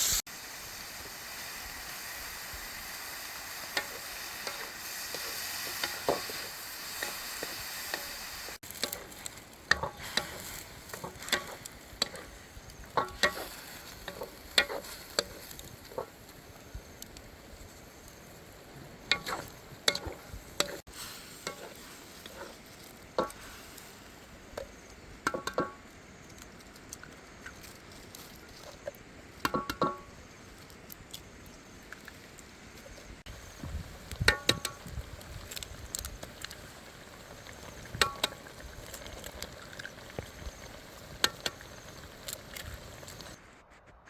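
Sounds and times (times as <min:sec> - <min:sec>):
fish sizzling over fire: 0:00.0 - 0:43.6.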